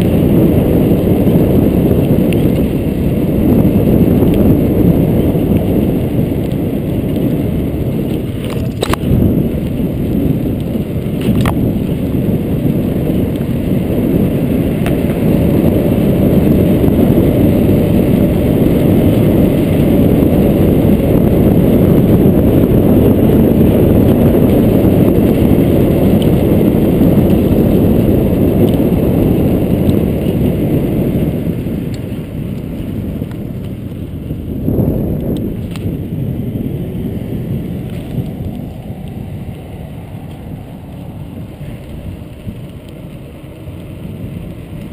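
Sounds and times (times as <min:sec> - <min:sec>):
tyres rumbling over paving: 0:00.0 - 0:44.9
wind buffeting microphone: 0:00.0 - 0:44.9.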